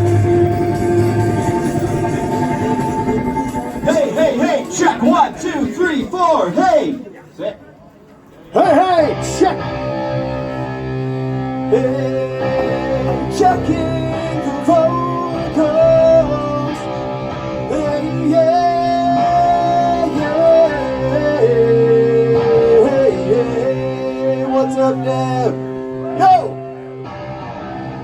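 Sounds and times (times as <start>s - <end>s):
rock band playing through pa: 0.0s - 6.2s, 8.6s - 28.0s.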